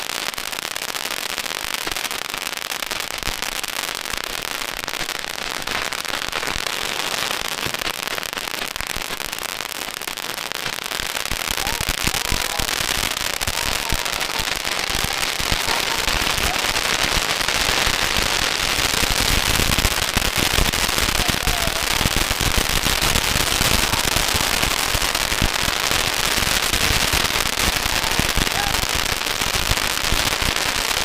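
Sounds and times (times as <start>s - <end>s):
firecrackers crackling: 0.0s - 31.0s.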